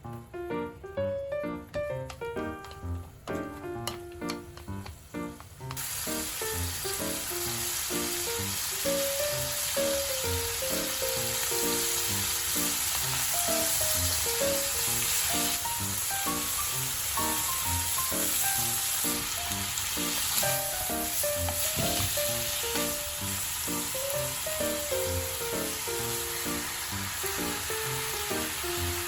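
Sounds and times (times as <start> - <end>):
background music: 0.0 - 29.0
stir-fry sizzling in a pan: 2.6 - 29.0.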